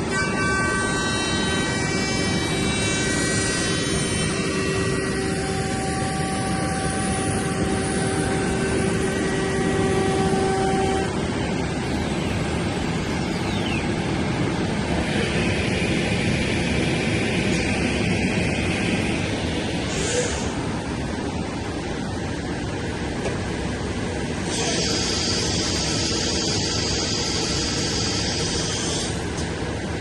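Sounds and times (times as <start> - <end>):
high-speed spindle whine: 0.0 - 30.0.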